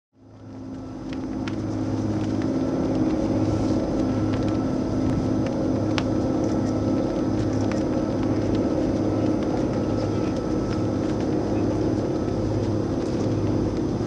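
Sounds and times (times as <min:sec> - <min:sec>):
low machinery hum: 0:00.2 - 0:14.0.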